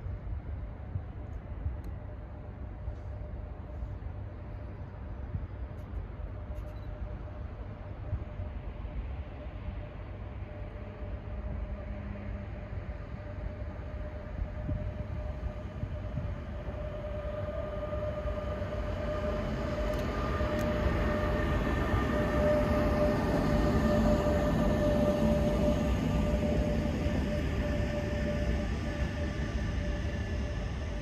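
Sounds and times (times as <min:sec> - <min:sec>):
train rumbling past: 0:00.0 - 0:31.0
train whine: 0:00.0 - 0:31.0.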